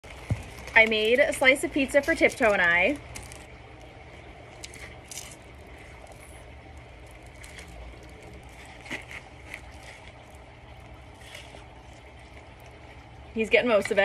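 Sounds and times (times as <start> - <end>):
tortoise crunching watermelon: 0.0 - 14.0.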